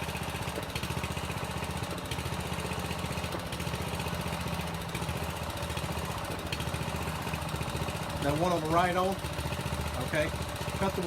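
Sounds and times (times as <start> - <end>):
small hydraulic machine engine running: 0.0 - 11.0.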